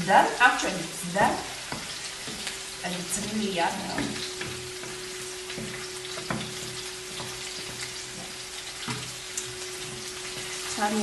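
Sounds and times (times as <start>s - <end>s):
sauce sizzling in a pan: 0.0s - 11.0s
spatula stirring sauce: 1.0s - 11.0s.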